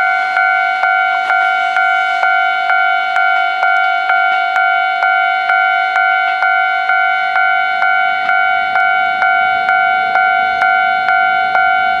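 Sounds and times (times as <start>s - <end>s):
level crossing warning bell: 0.0s - 12.0s.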